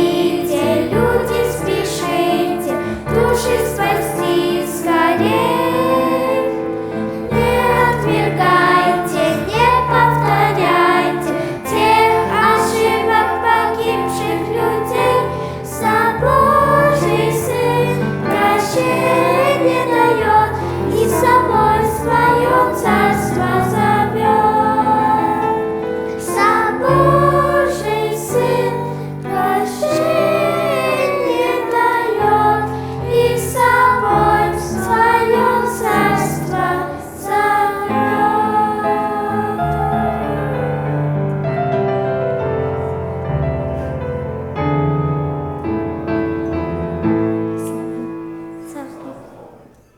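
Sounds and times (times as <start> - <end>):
children's choir singing: 0.0 - 49.9.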